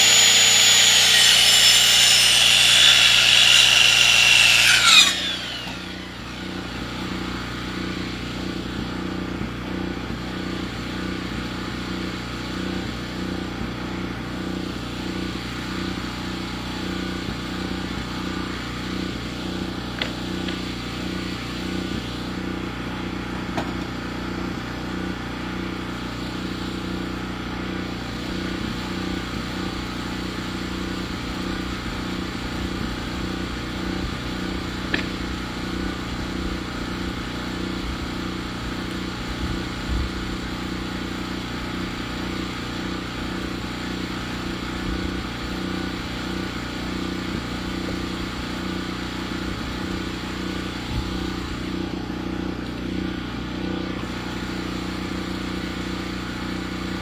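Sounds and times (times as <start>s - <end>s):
sawmill engine idling: 0.0s - 32.7s, 33.4s - 57.0s.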